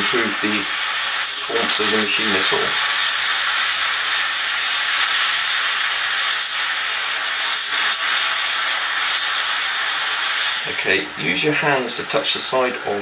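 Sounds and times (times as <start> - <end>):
steam wand hissing into milk: 0.0 - 13.0.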